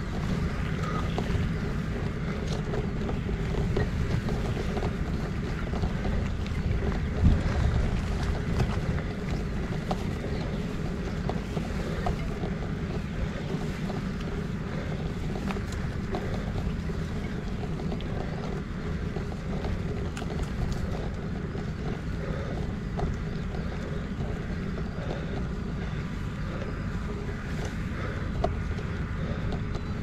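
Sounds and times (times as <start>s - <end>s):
bike tyres rolling on gravel: 0.0s - 30.0s
small clicks and rattles: 0.0s - 30.0s
wind buffeting microphone: 0.0s - 30.0s.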